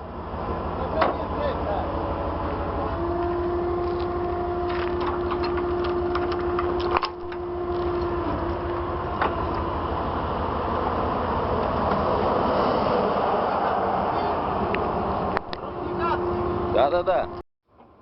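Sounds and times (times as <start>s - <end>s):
diesel engine running: 0.0s - 17.4s
steady whine: 0.0s - 17.4s.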